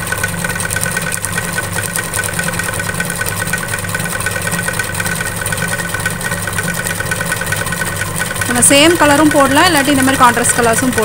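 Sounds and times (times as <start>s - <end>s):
sewing machine running: 0.0s - 11.0s.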